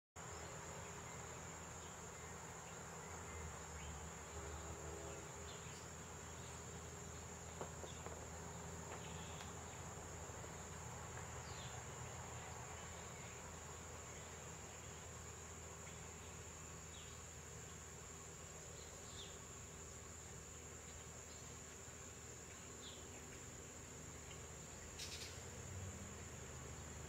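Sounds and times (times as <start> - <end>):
insects trilling: 0.2 - 27.0.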